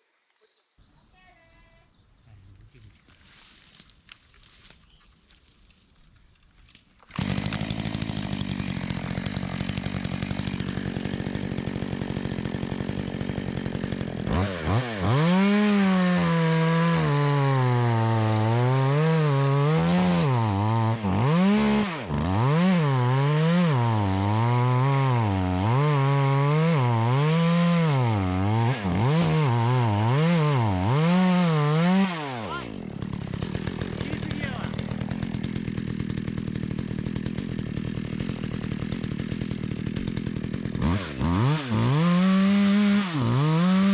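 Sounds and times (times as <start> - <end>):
chainsaw cutting tree: 7.0 - 43.9
chainsaw idling: 7.0 - 43.9.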